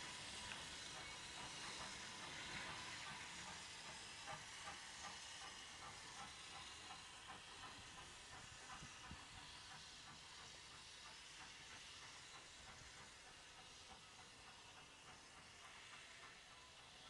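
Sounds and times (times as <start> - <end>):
distant steam locomotive: 0.0 - 17.0.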